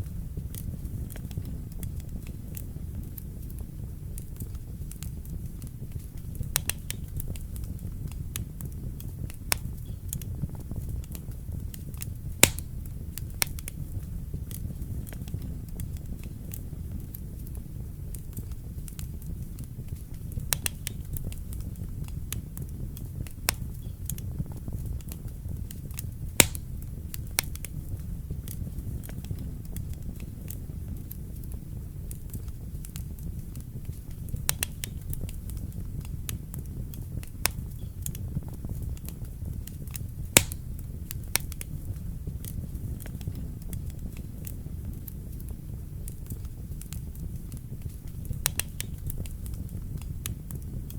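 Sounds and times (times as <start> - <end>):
fire crackling and popping: 0.0 - 50.9
fire flames rumbling: 0.0 - 50.9.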